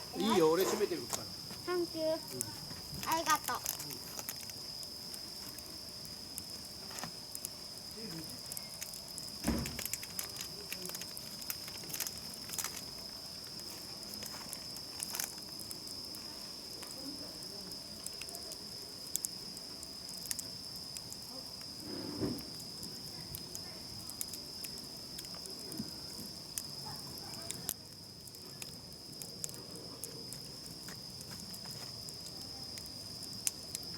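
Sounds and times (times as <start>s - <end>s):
campfire crackling and popping: 0.0s - 33.9s
insects chirring: 0.0s - 33.9s.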